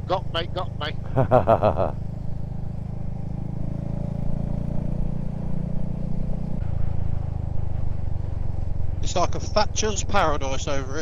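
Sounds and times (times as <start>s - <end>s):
motorcycle engine drone: 0.0s - 11.0s.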